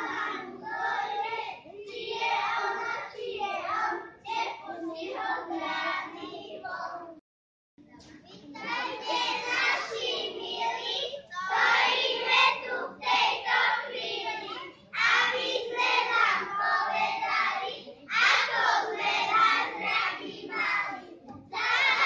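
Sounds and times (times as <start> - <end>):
young children singing: 0.0 - 7.2, 7.9 - 22.0.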